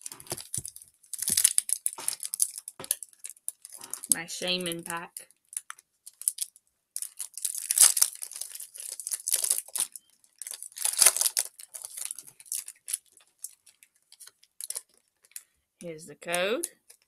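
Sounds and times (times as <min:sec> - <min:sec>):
foil wrapper tearing and crinkling: 0:00.0 - 0:04.2, 0:05.4 - 0:15.4.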